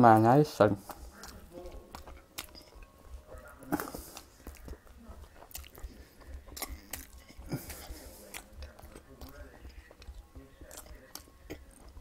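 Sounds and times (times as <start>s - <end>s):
person chewing with wet mouth clicks: 0.9s - 12.0s.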